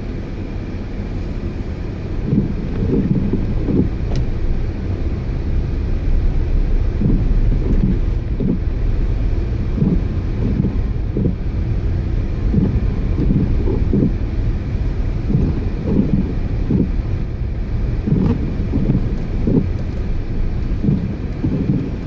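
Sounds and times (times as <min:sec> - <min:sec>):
storm wind buffeting microphone: 0:02.0 - 0:22.0.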